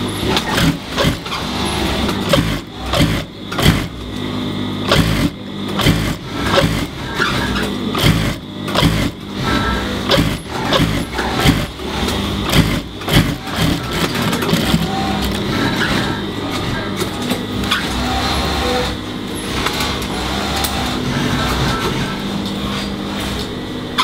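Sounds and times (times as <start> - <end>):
sewing machine stitching: 0.0 - 4.0, 4.8 - 22.8.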